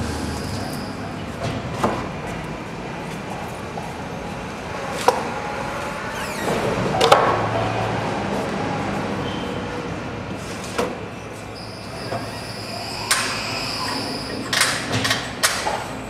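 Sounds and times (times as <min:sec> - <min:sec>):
machinery noise: 0:00.0 - 0:16.0.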